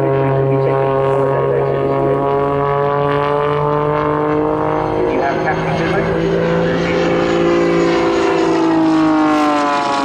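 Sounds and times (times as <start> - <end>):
biplane engine and propeller drone: 0.0 - 10.0.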